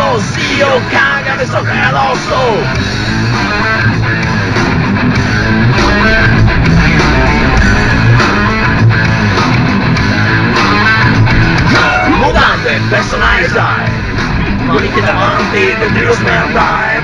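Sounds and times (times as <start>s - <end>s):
punk rock instrumental: 0.0s - 17.0s.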